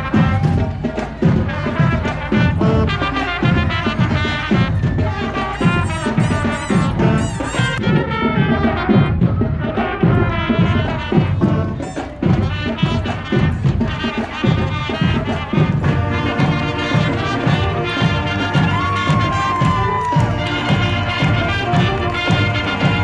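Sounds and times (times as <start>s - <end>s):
marching band playing: 0.0s - 23.0s.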